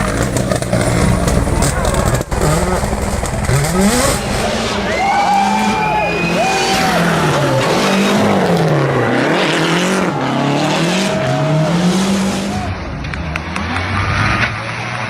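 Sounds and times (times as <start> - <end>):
rally car engine at high revs: 0.0 - 4.9, 5.5 - 15.0
tyre and road noise: 0.0 - 15.0.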